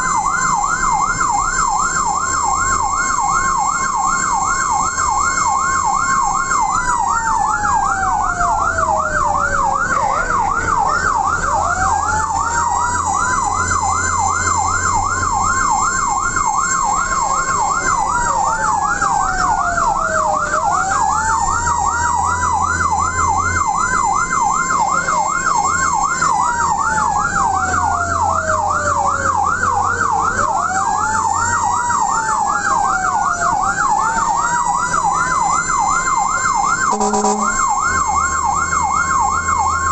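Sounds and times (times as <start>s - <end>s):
siren wail: 0.0s - 39.9s
siren yelp warbling: 0.0s - 39.9s
vehicle engine drone: 0.0s - 39.9s.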